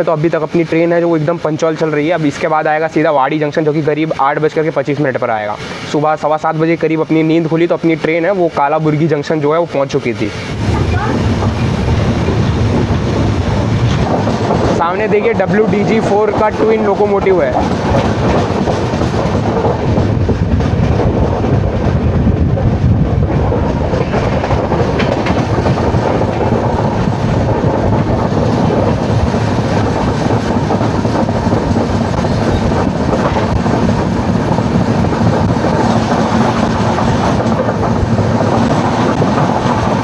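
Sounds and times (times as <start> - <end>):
train wheels clacking on rails: 0.0 - 40.0.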